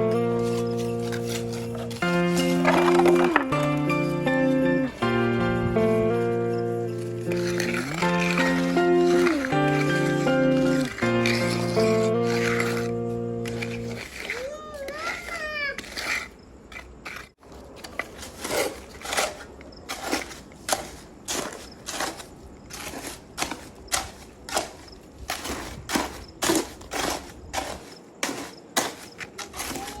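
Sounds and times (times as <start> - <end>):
tools scraping wet mortar: 0.0 - 30.0.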